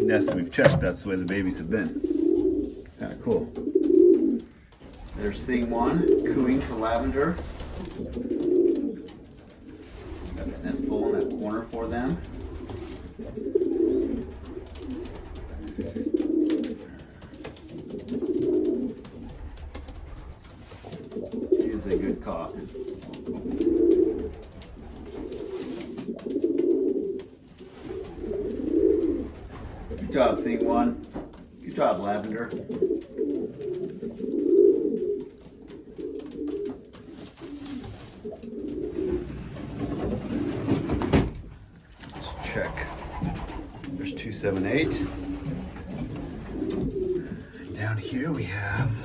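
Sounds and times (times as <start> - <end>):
pigeon cooing: 0.0 - 41.3, 42.1 - 49.0.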